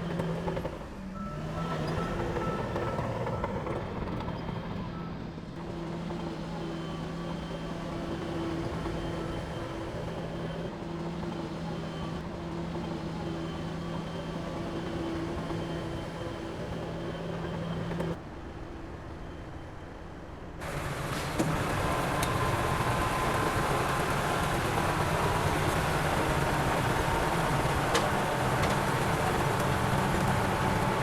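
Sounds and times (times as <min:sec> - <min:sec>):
heavy diesel engine running: 0:00.0 - 0:18.2, 0:20.6 - 0:31.0.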